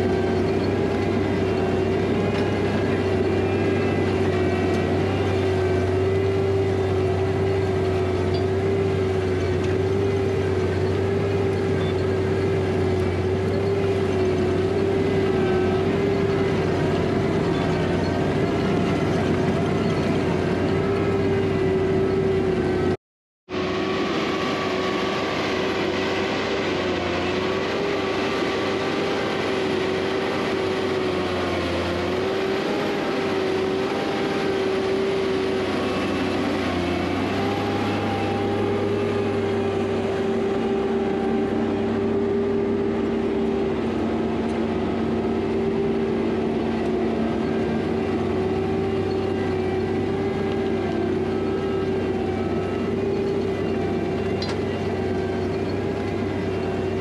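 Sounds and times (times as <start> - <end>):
low engine rumble: 0.0 - 57.0
machine whining tone: 0.0 - 57.0.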